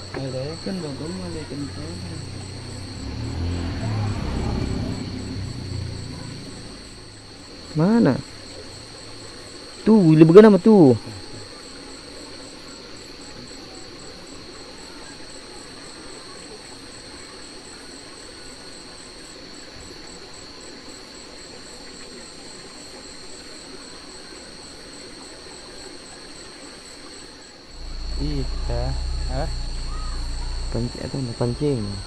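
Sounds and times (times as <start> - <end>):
insect pulsing high chirp: 0.0 - 32.0
insect steady high trill: 0.0 - 32.0.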